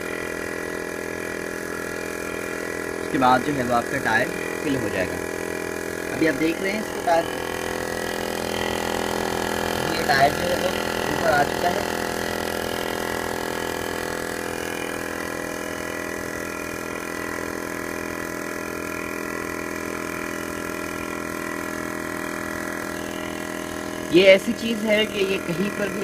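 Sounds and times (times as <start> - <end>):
air compressor running: 0.0 - 26.0.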